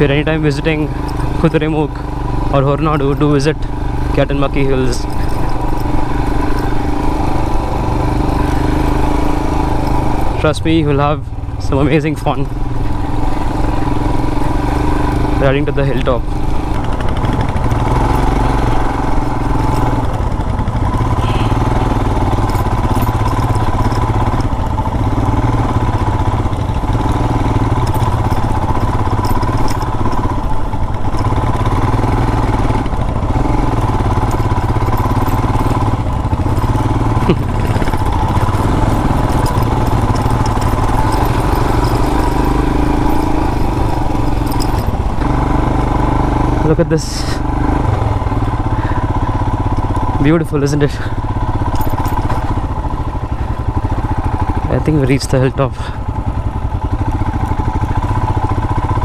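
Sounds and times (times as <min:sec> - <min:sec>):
motorcycle engine climbing uphill: 0:00.0 - 0:59.0.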